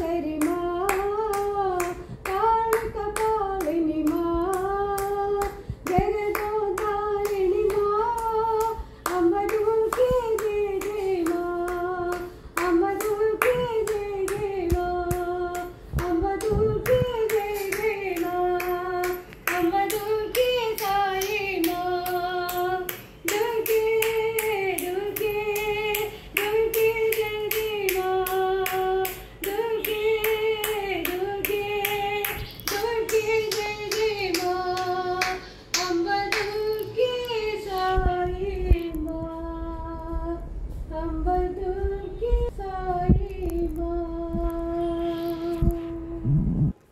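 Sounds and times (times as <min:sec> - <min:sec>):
hand claps keeping time: 0:00.0 - 0:39.2
woman singing: 0:00.0 - 0:46.5.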